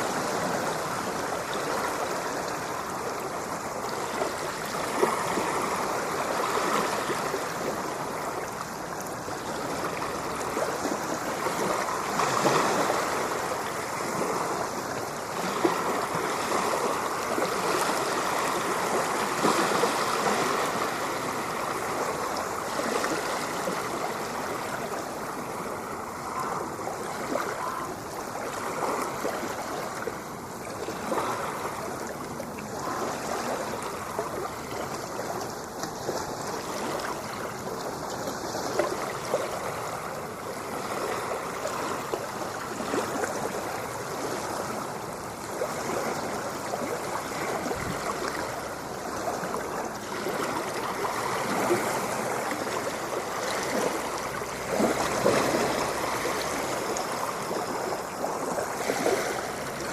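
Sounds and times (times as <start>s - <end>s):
ocean water washing and lapping: 0.0s - 59.9s
water bubbling and fizzing: 0.0s - 59.9s.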